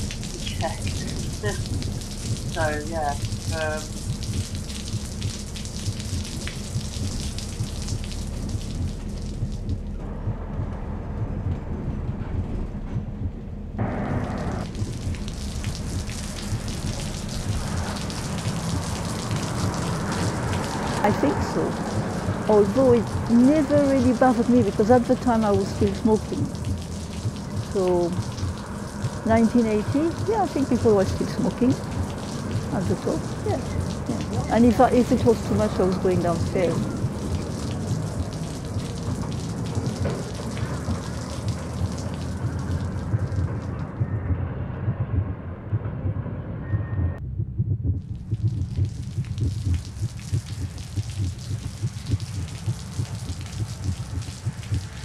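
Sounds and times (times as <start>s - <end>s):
rain-like patter: 0.0s - 13.1s, 13.8s - 44.1s, 48.3s - 55.0s
low rumble: 0.0s - 55.0s.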